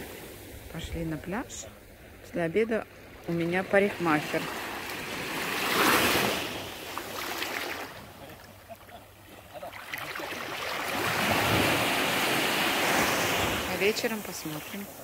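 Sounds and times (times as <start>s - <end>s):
small waves lapping on beach: 0.0s - 15.0s.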